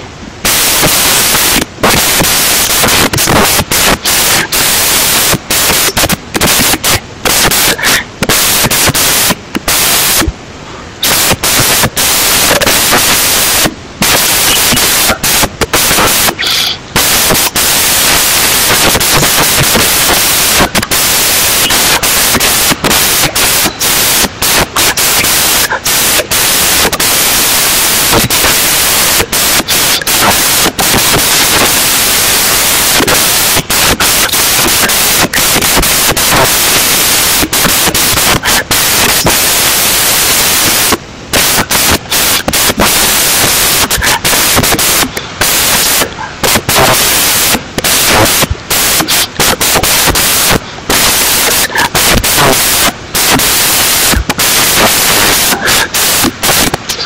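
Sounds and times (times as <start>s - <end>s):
loud hissing static: 0.0s - 57.0s.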